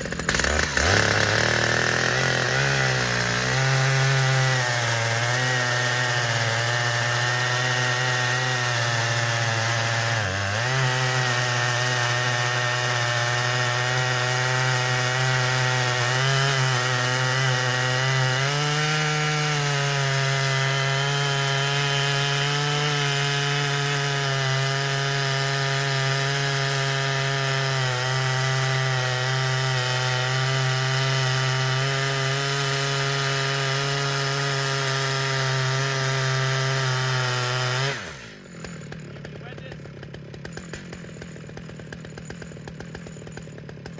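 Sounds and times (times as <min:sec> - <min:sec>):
chainsaw ripping a log: 0:00.0 - 0:43.9.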